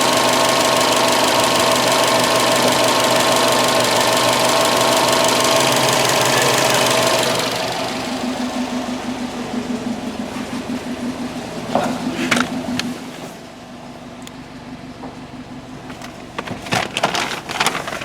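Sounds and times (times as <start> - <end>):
car engine idling rough: 0.0 - 18.0.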